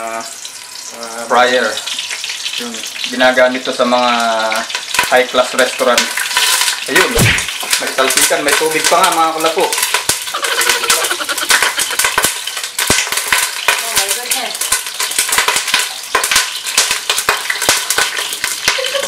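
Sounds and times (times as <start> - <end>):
deep fryer sizzling hiss: 0.0 - 19.0
oil popping and crackling: 0.0 - 19.0.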